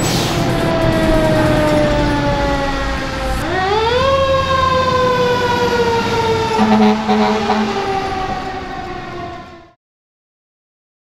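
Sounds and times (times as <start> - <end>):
fire engine siren wailing: 0.0 - 9.8
low horn blast: 0.4 - 9.7.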